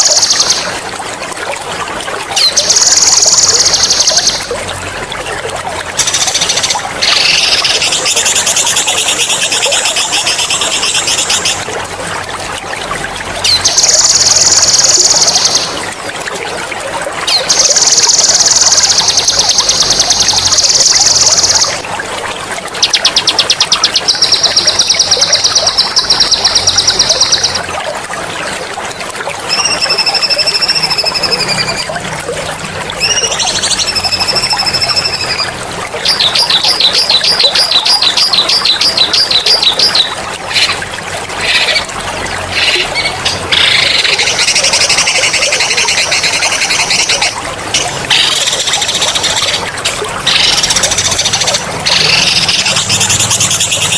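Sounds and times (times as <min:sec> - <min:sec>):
water trickling: 0:00.0 - 0:53.9.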